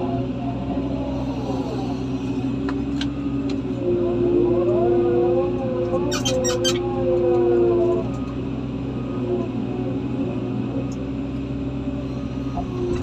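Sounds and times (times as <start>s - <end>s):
heavy machinery engine revving: 0.0s - 13.0s.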